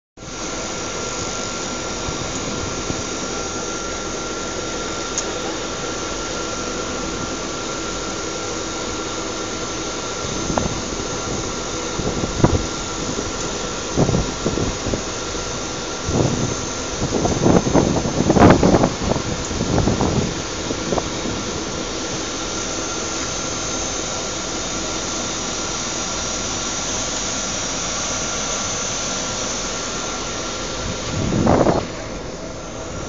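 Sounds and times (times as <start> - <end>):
machinery roar with whine: 0.2 - 33.0.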